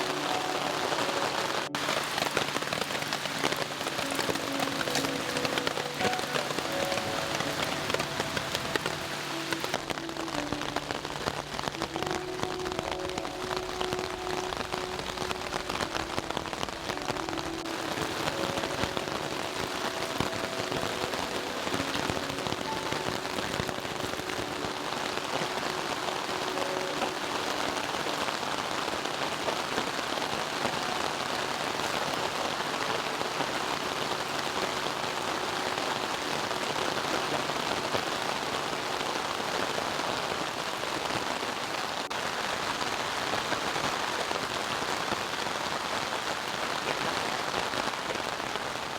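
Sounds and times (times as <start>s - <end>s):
rain hitting a tarp: 0.0s - 48.9s.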